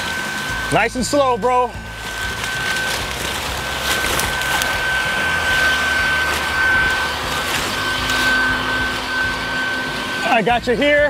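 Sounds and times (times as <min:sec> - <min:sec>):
vacuum motor whine: 0:00.0 - 0:11.0.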